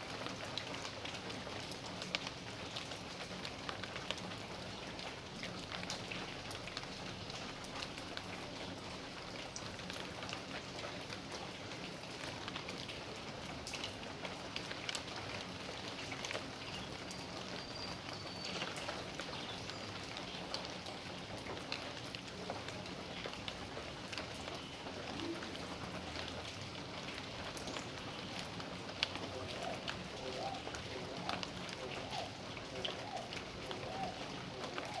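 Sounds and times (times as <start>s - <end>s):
raindrops tapping on surfaces: 0.0s - 35.0s
steady rain falling: 0.0s - 35.0s.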